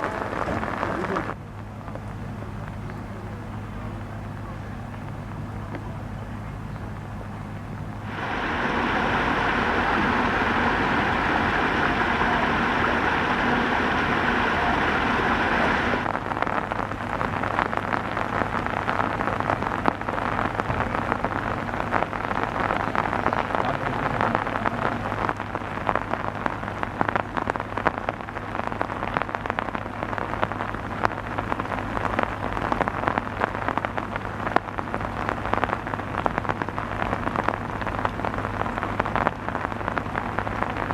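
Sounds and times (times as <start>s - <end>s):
heavy rain pattering: 0.0s - 40.9s
loud steady rushing: 0.0s - 40.9s
low steady hum: 0.0s - 40.9s.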